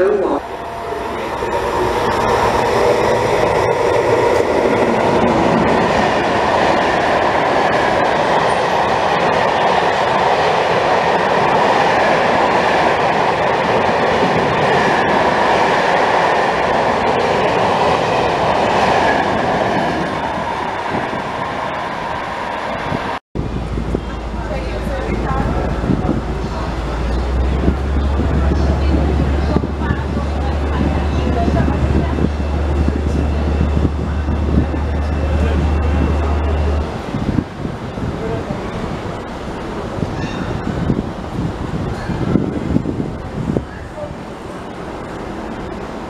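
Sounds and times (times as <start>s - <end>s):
freight train wheels rumbling: 0.0s - 46.0s.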